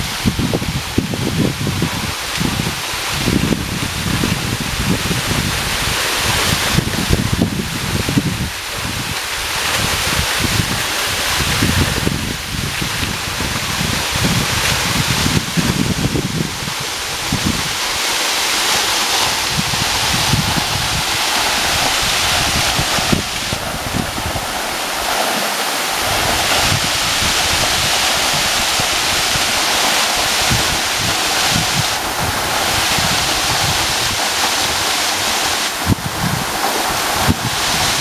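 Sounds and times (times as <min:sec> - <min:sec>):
waterfall rushing and splashing: 0:00.0 - 0:38.0
wind buffeting microphone: 0:00.0 - 0:38.0.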